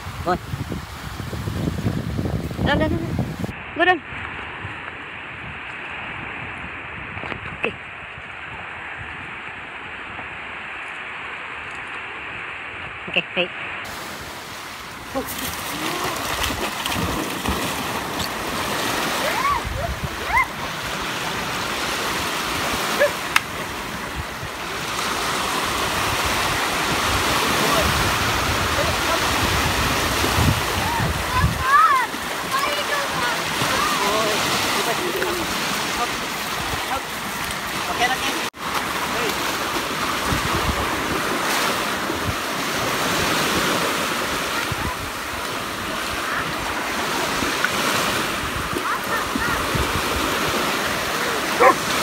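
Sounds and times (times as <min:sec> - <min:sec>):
sea waves breaking: 0:00.0 - 0:52.0
wind rumbling on microphone: 0:00.0 - 0:52.0.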